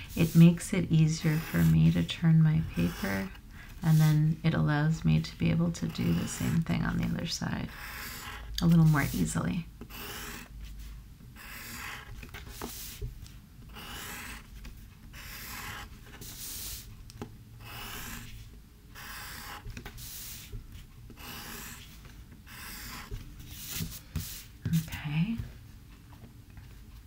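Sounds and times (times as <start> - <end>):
pencil scratching on paper: 0.0 - 10.5, 11.4 - 13.1, 13.7 - 14.5, 15.1 - 16.9, 17.6 - 25.4.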